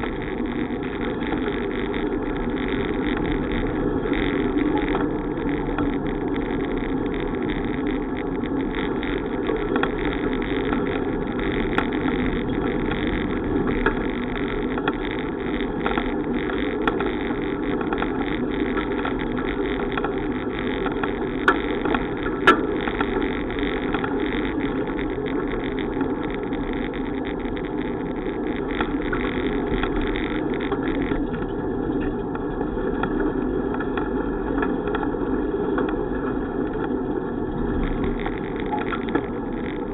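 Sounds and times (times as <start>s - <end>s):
bicycle road noise: 0.0s - 39.9s
wind noise on camera: 0.0s - 39.9s.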